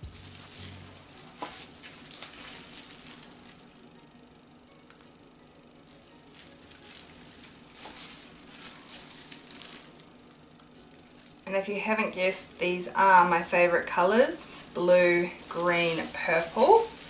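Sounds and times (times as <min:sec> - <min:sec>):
plastic glove crinkling: 0:00.0 - 0:04.1, 0:05.7 - 0:17.0.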